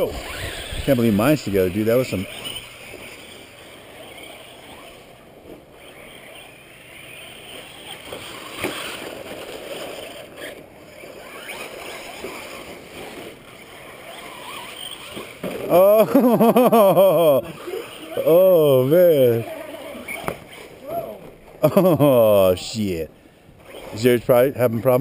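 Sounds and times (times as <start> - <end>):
faint electric motor whines: 0.0 - 25.0.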